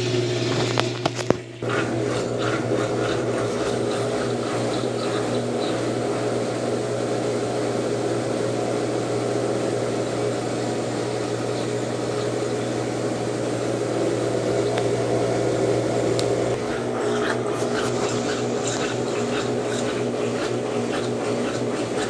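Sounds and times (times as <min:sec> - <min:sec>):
washing machine motor humming: 0:00.0 - 0:22.0.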